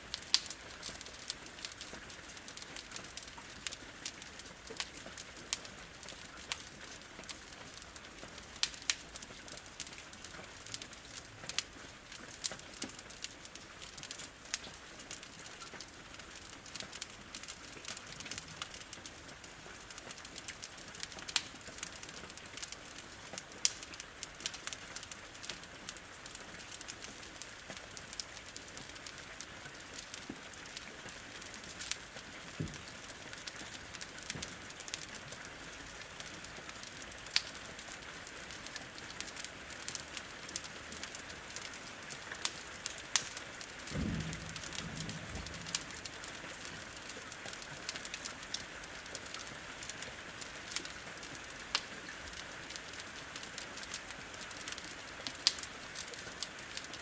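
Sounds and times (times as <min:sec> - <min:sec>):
rain on a window: 0:00.0 - 0:57.0
wood fire crackling and popping: 0:00.1 - 0:57.0.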